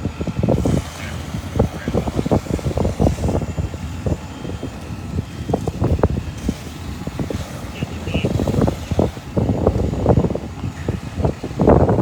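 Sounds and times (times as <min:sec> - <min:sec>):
gusty wind on microphone: 0:00.0 - 0:12.0.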